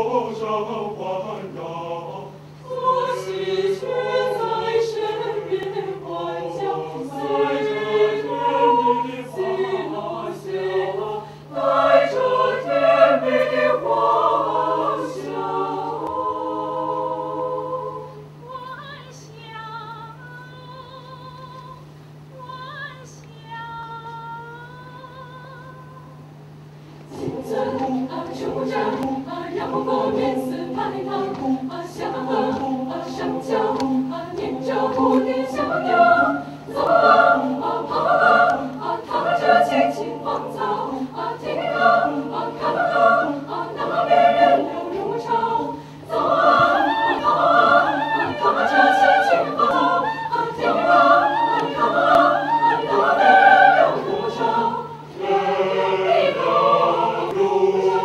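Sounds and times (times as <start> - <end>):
choir singing a cappella: 0.0 - 19.2, 27.1 - 58.0.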